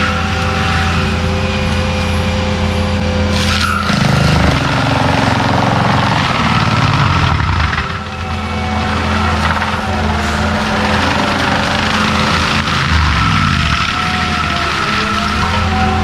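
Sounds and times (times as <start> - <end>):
diesel engine running hard: 0.0 - 16.0
mulcher head grinding material: 0.0 - 16.0.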